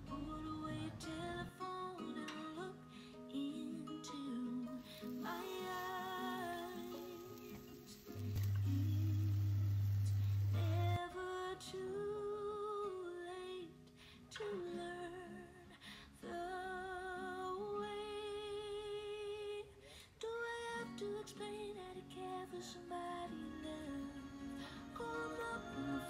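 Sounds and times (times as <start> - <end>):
plucked guitar: 0.0 - 19.6, 20.5 - 26.0
woman singing: 0.0 - 26.0.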